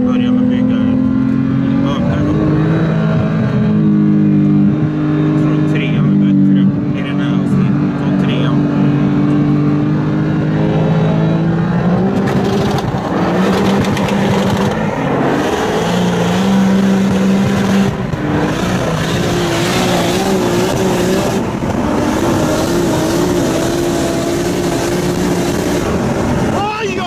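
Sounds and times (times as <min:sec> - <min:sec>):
car engine accelerating: 0:00.0 - 0:27.0
road and wind noise: 0:00.0 - 0:27.0.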